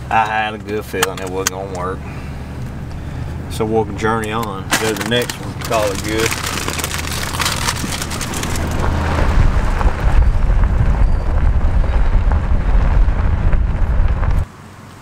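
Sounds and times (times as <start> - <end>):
truck road noise rumble: 0.0 - 15.0
wind buffeting microphone: 1.0 - 14.5.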